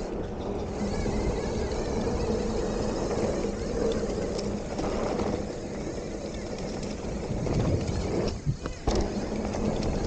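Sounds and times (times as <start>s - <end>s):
bike tyres rolling on dirt: 0.0s - 10.0s.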